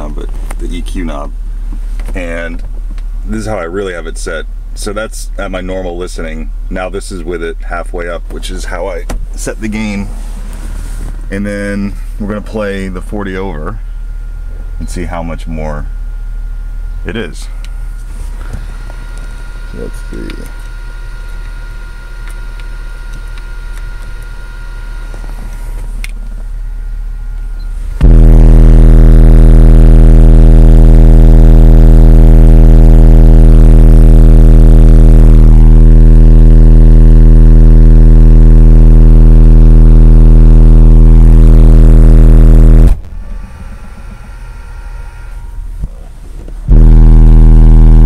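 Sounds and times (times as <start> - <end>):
distorted subwoofer test tone: 0.0 - 48.0
quiet low hum: 0.0 - 48.0.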